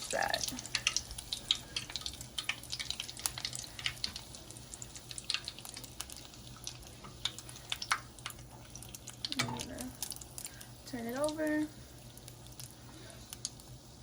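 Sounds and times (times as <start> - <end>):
oil crackling and popping: 0.0 - 14.0.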